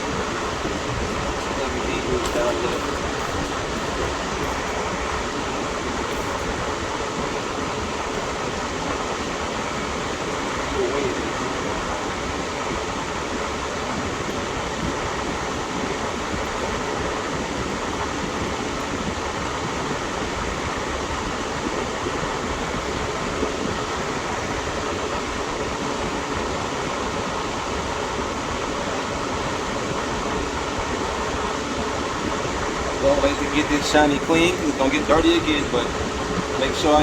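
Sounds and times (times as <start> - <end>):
steady rushing fan noise: 0.0 - 37.0.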